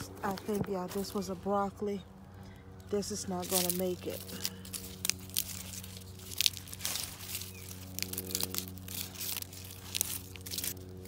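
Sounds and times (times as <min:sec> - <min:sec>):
crunching and crackles: 0:00.0 - 0:11.0
steady low hum: 0:00.0 - 0:11.0.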